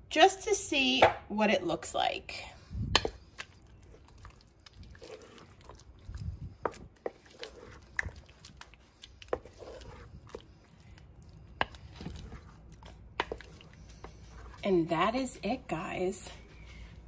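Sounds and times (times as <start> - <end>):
wet squelching stirring: 2.4 - 17.0.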